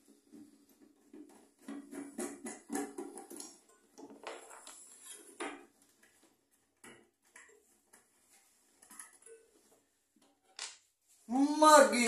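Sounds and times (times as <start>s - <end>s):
faint metallic clinks and knocks: 0.1s - 10.6s.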